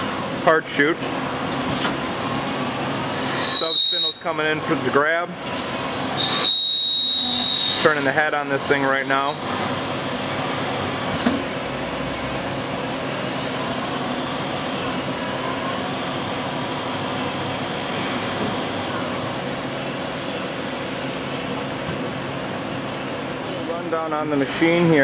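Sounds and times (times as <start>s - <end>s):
lathe machine hum: 0.0s - 24.4s
high motor whine: 1.0s - 21.8s.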